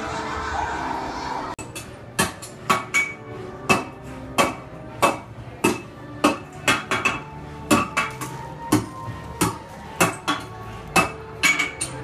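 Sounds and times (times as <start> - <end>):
hammer striking metal on anvil: 1.6 - 12.0.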